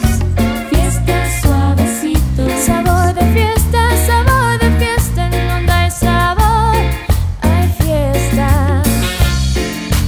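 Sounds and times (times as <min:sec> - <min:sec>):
drums: 0:00.0 - 0:10.0
electric bass: 0:00.0 - 0:10.0.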